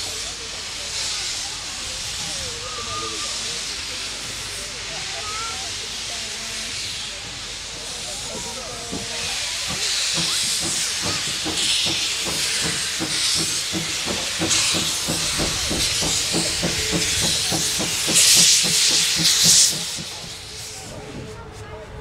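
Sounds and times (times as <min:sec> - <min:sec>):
continuous steam hiss: 0:00.0 - 0:22.0
loud rush of steam: 0:00.0 - 0:22.0
steam locomotive exhaust beats: 0:00.0 - 0:22.0.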